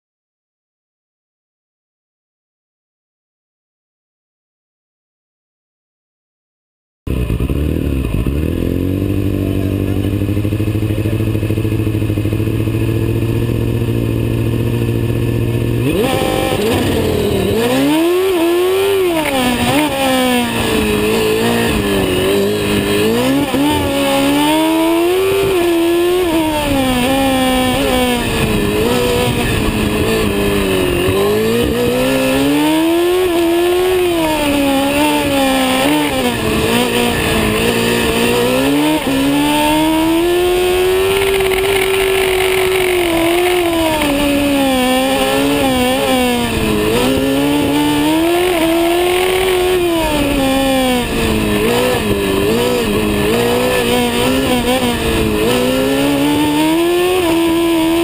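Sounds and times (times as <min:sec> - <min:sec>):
race car engine revving: 0:07.1 - 0:58.0.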